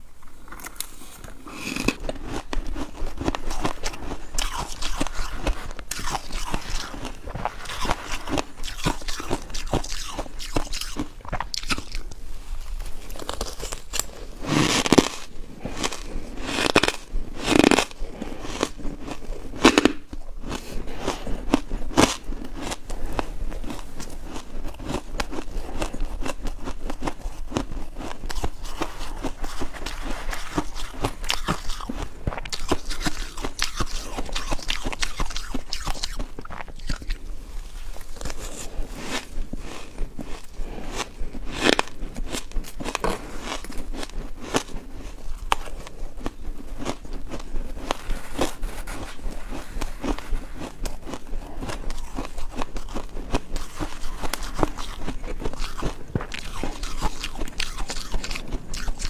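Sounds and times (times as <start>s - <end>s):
ice being chewed: 0.2s - 59.0s.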